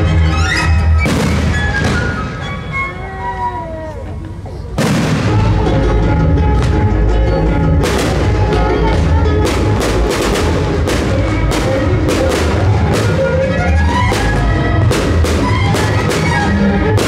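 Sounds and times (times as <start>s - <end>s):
sharp orchestral hits: 0.0s - 3.0s, 4.8s - 7.0s, 7.7s - 17.0s
orchestral music: 0.0s - 17.0s.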